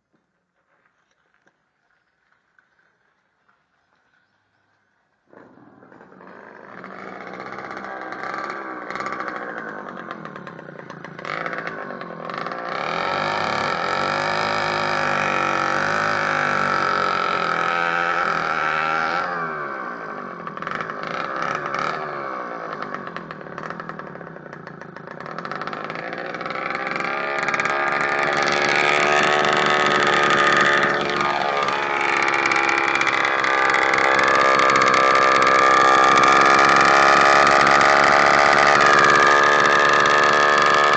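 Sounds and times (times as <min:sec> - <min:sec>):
moped engine revving: 0:05.3 - 0:40.9.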